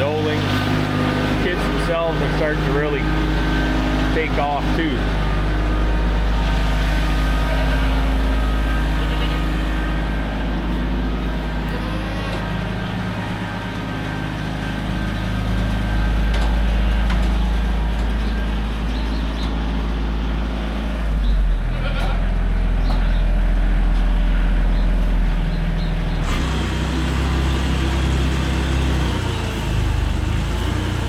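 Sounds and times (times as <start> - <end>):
feed mixer engine humming: 0.0 - 21.6, 23.4 - 31.0.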